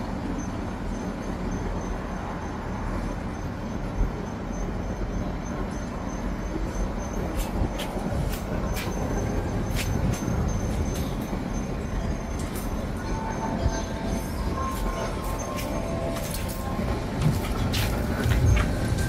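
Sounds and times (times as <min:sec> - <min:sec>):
wind buffeting microphone: 0:02.6 - 0:19.0.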